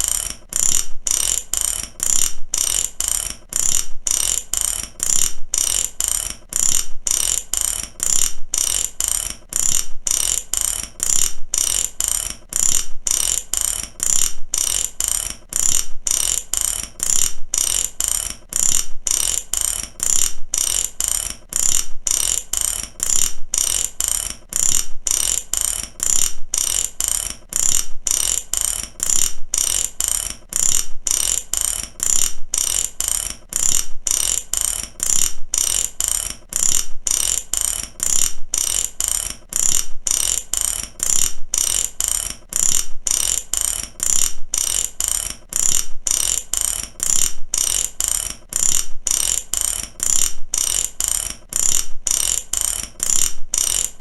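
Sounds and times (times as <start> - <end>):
ratchet wrench clicking: 0.0 - 54.0.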